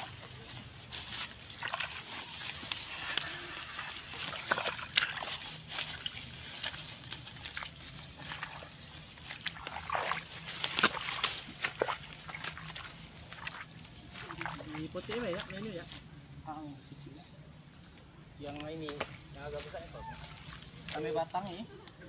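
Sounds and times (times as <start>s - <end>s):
footsteps wading through mud: 0.0s - 16.2s, 18.4s - 22.0s.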